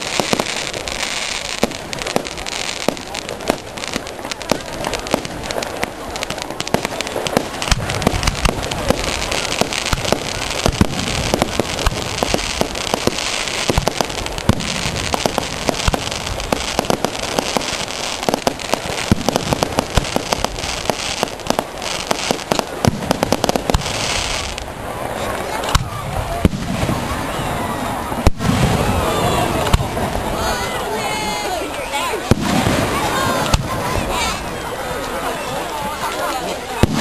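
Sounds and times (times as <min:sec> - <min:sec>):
deep firework bangs: 0:00.0 - 0:30.4, 0:32.2 - 0:34.4, 0:36.7 - 0:37.0
steady hiss: 0:00.0 - 0:31.8
fireworks popping and crackling: 0:00.0 - 0:37.0.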